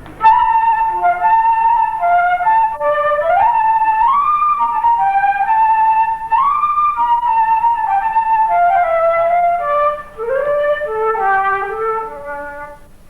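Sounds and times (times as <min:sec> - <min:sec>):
flute-like slow melody: 0:00.0 - 0:13.0.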